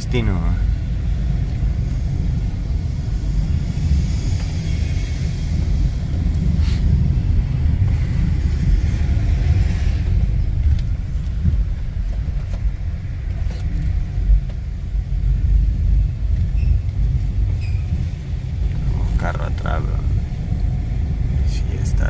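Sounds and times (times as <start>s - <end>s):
vehicle rumbling in traffic: 0.0s - 22.0s.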